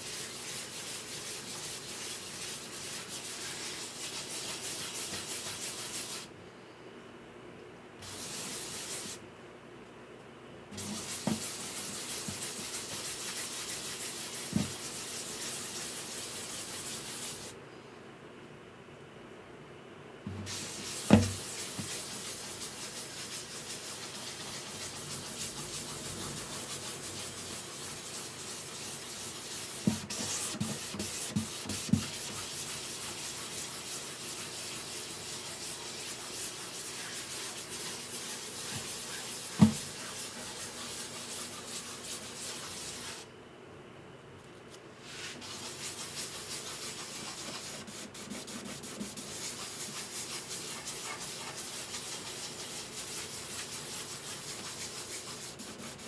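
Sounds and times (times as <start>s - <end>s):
sanding wood: 0.0s - 6.3s, 8.0s - 9.2s, 10.8s - 17.5s, 20.5s - 43.2s, 45.1s - 56.0s.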